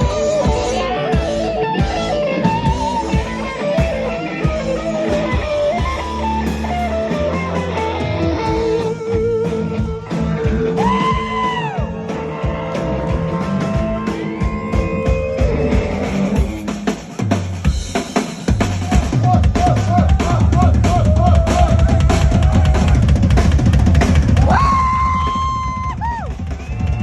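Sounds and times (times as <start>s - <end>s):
drums: 0.0s - 27.0s
electric guitar: 0.0s - 27.0s.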